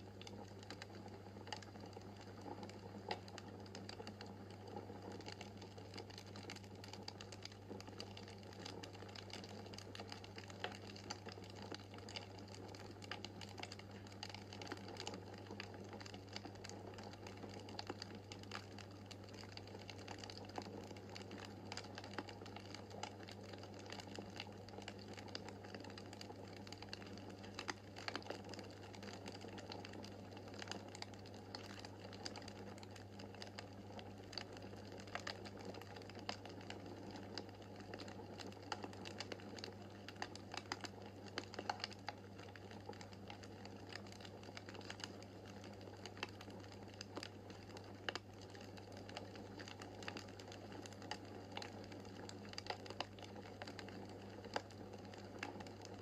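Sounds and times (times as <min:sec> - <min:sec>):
low steady hum: 0:00.0 - 0:56.0
wood fire crackling and popping: 0:00.0 - 0:56.0.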